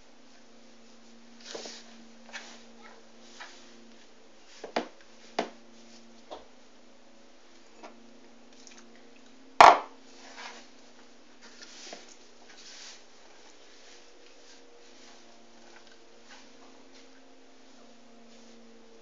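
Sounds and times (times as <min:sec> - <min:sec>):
hands mixing dough rustling: 0:00.8 - 0:06.2, 0:08.3 - 0:19.0.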